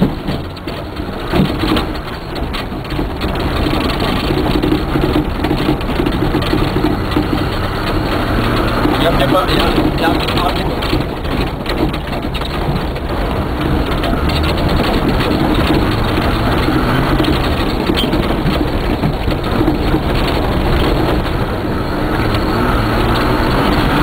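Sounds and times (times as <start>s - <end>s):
cabin rattling and knocks: 0.0s - 21.6s
engine running hard: 0.0s - 24.0s.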